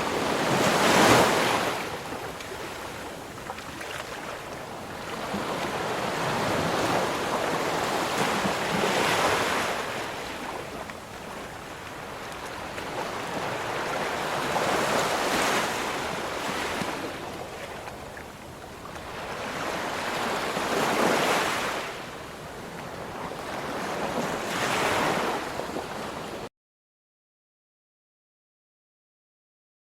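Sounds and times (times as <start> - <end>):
ocean waves breaking: 0.0 - 26.5.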